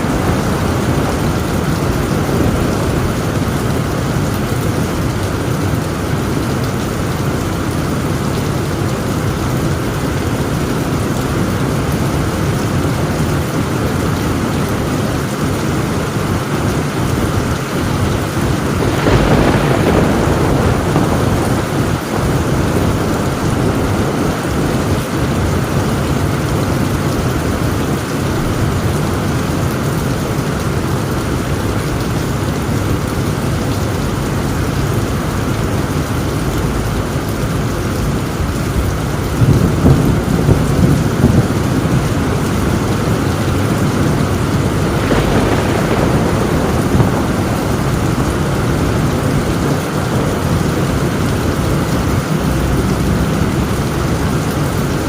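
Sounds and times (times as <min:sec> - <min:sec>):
heavy rain on a tin roof: 0:00.0 - 0:55.0
thunder rumble: 0:00.0 - 0:55.0.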